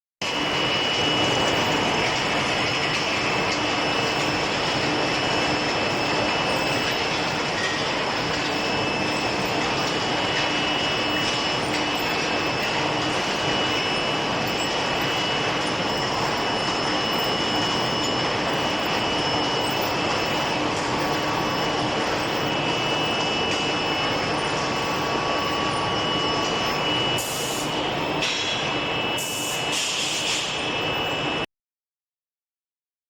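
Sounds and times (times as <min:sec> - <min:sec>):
high-pitched whine: 0:00.2 - 0:31.5
industrial machinery noise: 0:00.2 - 0:31.5.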